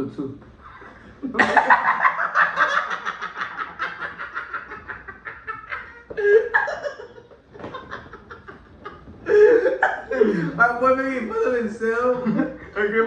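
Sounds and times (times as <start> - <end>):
young men laughing: 0.8 - 13.0.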